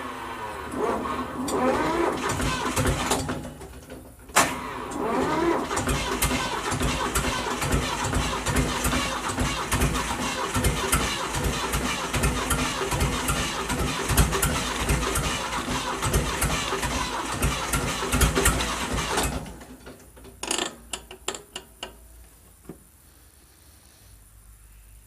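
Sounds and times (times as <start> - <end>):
tractor engine starting and running: 0.0 - 22.0.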